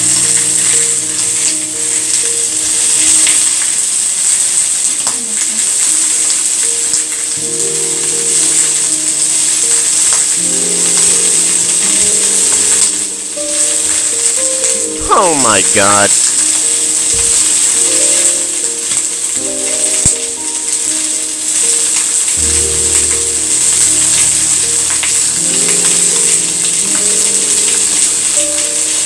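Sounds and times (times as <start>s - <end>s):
background music: 0.0s - 29.0s
chicken sizzling in pan: 0.0s - 29.0s.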